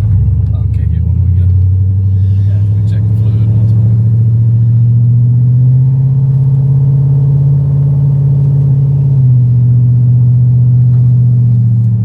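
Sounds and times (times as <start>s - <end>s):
engine exhaust drone: 0.0s - 12.0s.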